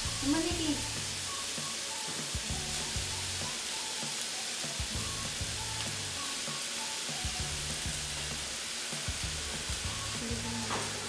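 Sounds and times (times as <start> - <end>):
light background music: 0.0 - 11.0
meat sizzling in a frying pan: 0.0 - 11.0.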